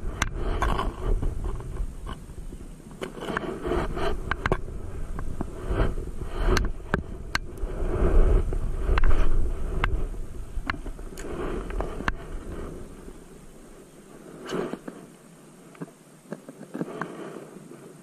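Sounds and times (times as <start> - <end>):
low rumble: 0.0 - 15.2.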